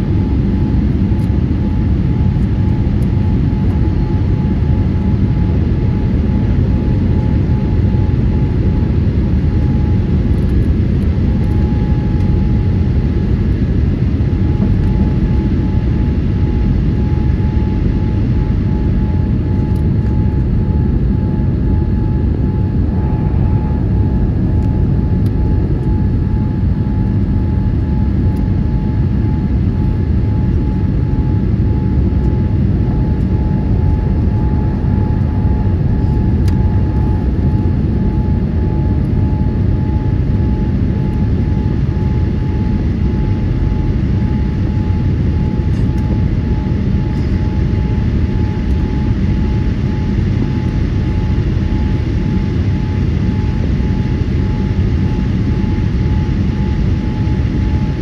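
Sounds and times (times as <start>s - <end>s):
airliner cabin engine roar: 0.0s - 58.0s
thin steady whine: 0.0s - 58.0s.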